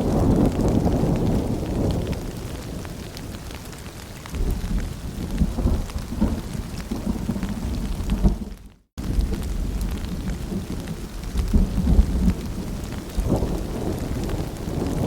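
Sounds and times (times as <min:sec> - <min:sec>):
distant thunder rumble: 0:00.0 - 0:15.0
rain dripping and pattering: 0:00.0 - 0:15.0.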